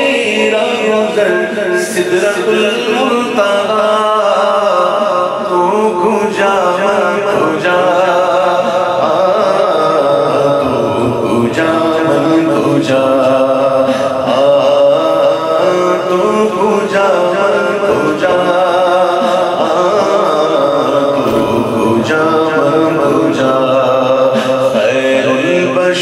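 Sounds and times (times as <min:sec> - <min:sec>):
man singing over pa system: 0:00.0 - 0:26.0.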